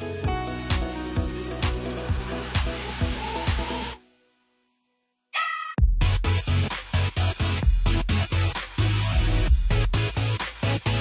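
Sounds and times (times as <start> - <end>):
electronic dance music: 0.0 - 4.0, 6.0 - 11.0.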